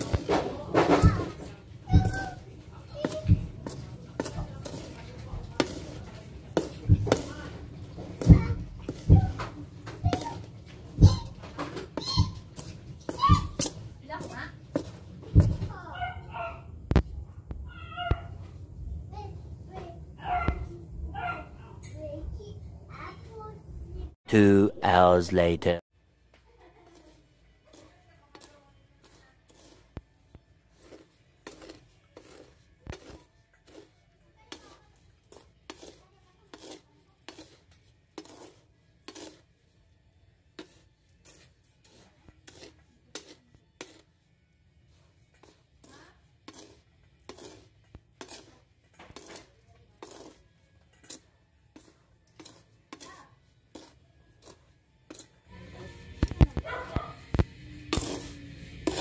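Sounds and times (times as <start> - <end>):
spatula scraping rice in pan: 0.0 - 15.7, 26.7 - 59.0.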